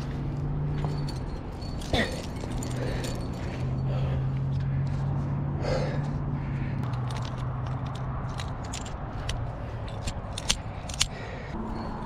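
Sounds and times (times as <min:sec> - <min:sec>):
metal climbing gear clinking: 0:00.0 - 0:12.0.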